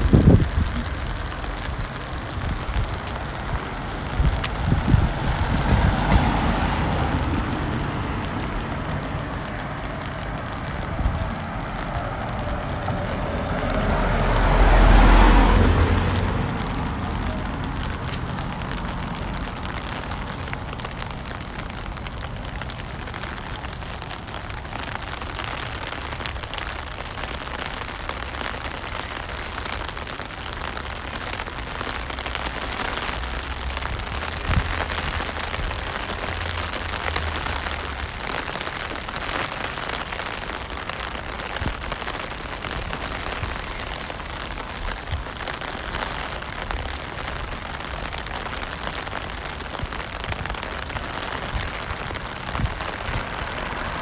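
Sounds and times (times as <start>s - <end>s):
rain on wet road: 0.0s - 54.0s.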